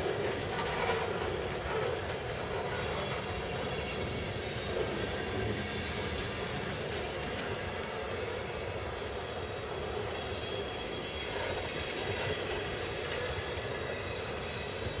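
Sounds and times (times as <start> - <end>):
freight train wheels rolling: 0.0 - 15.0.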